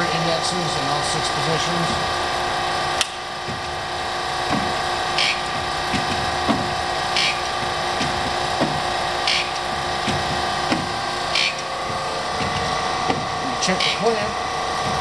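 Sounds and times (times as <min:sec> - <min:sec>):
lathe humming: 0:00.0 - 0:15.0.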